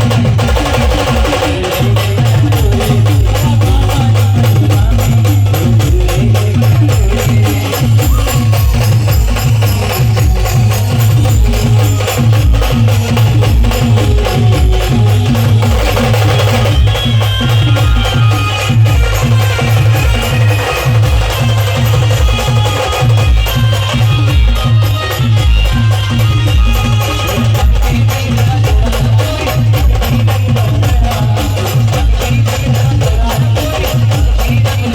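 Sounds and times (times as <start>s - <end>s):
band playing fast music: 0.0s - 34.9s
driving drum beat: 0.0s - 34.9s.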